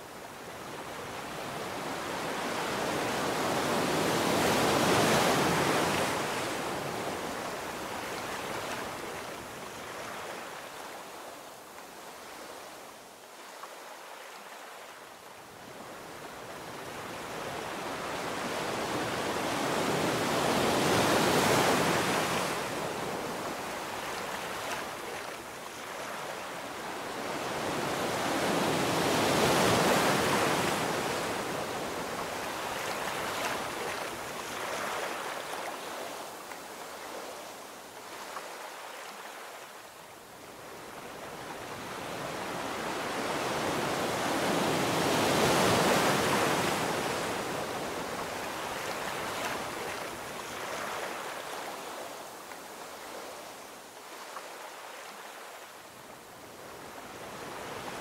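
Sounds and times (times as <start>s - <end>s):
waves washing onto sandy beach: 0.0s - 58.0s.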